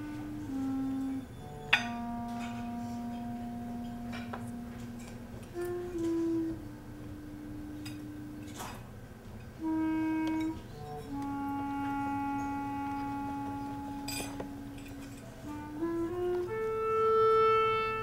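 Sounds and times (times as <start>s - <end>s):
clarinet playing long notes: 0.0s - 8.8s, 9.4s - 18.0s.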